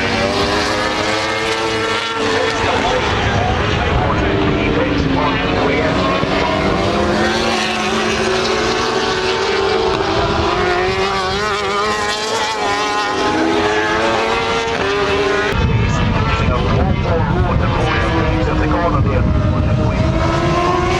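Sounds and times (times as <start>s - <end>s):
race motorcycle engines revving: 0.0s - 20.9s.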